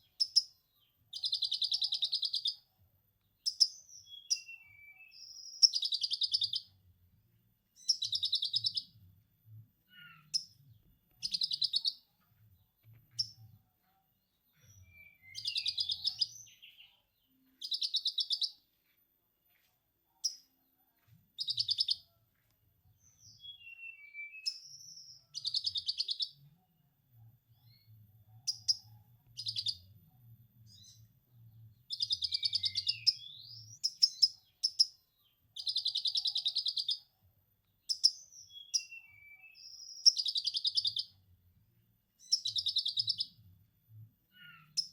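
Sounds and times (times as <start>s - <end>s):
bird chirps: 0.0s - 6.8s, 7.8s - 9.0s, 9.8s - 18.8s, 19.6s - 22.2s, 22.9s - 26.6s, 27.5s - 31.1s, 31.7s - 41.2s, 42.2s - 43.5s, 44.3s - 44.9s.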